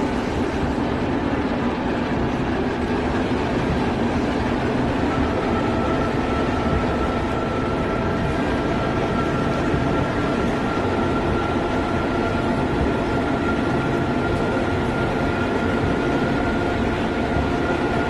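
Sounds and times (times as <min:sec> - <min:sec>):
electric locomotive rumble: 0:00.0 - 0:18.0.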